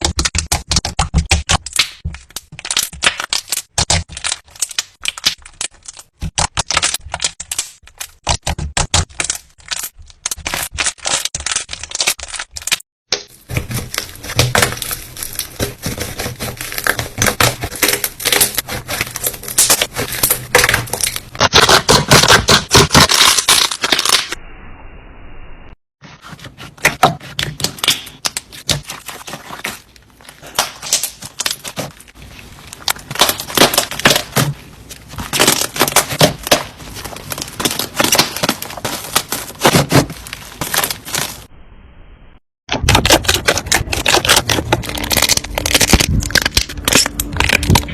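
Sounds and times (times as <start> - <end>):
slime crackling and popping: 0.0 - 24.4, 26.9 - 41.5, 42.7 - 47.9.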